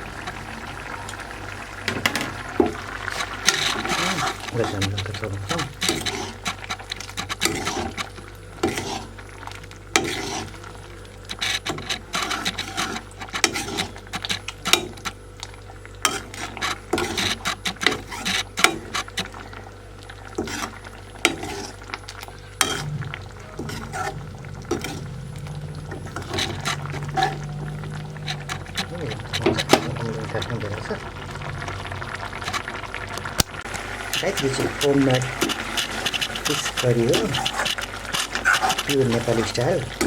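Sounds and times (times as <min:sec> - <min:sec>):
utensil scraping in cooking pot: 0:01.5 - 0:40.0.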